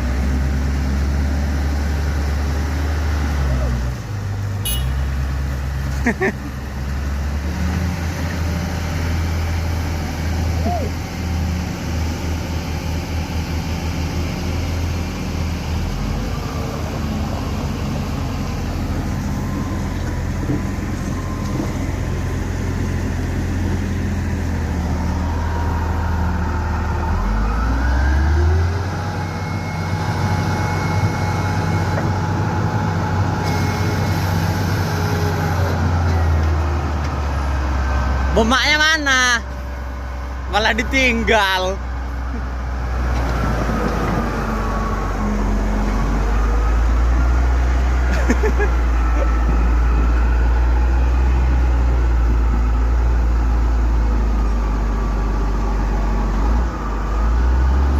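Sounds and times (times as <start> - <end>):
vehicle engine humming: 0.0 - 57.9.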